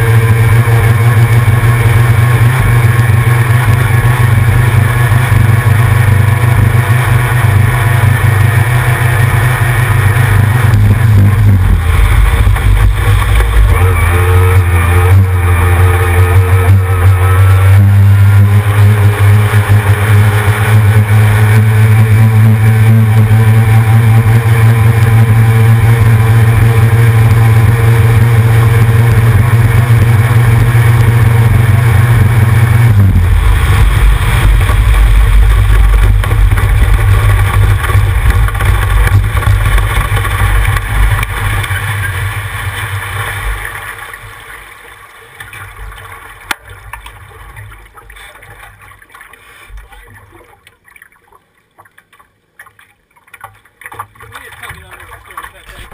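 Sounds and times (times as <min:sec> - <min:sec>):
outboard motor running hard: 0:00.0 - 0:50.7, 0:53.3 - 0:55.9.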